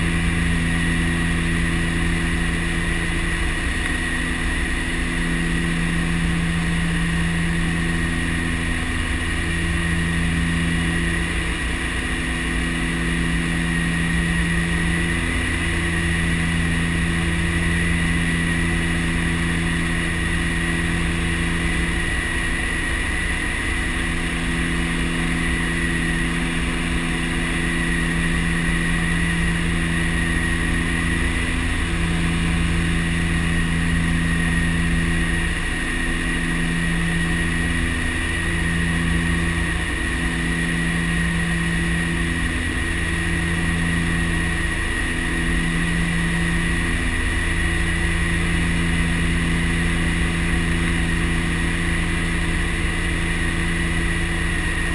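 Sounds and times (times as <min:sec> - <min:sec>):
high engine whine: 0:00.0 - 0:54.9
turboprop engines droning: 0:00.0 - 0:54.9.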